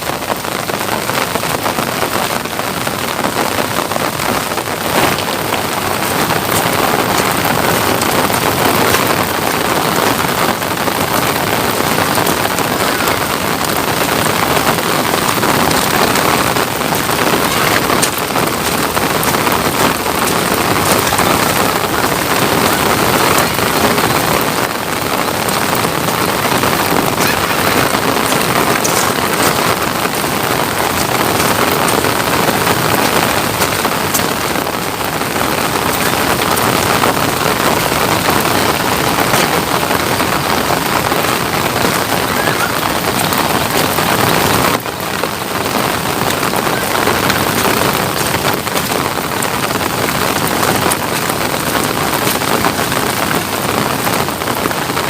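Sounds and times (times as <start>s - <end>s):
raindrop taps: 0.0s - 55.0s
steady rain falling: 0.0s - 55.0s.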